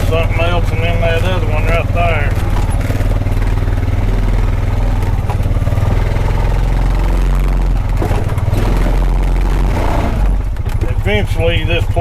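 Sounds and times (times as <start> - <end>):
vehicle engine running at low speed: 0.0 - 12.0.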